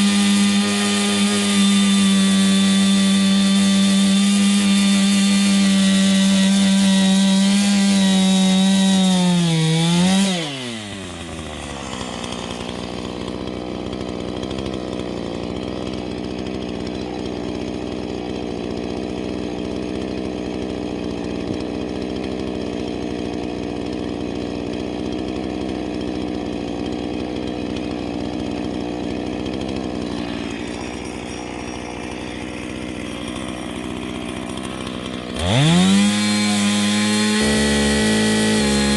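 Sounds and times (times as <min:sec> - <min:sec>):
chainsaw engine revving then idling: 0:00.0 - 0:38.9.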